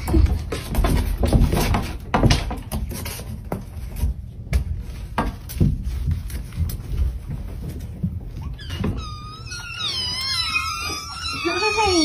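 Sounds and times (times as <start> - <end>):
low rumble of movement: 0.0 - 10.5.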